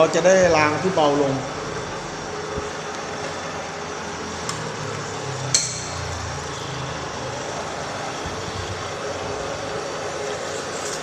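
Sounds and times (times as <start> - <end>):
milling machine running: 0.0 - 11.0.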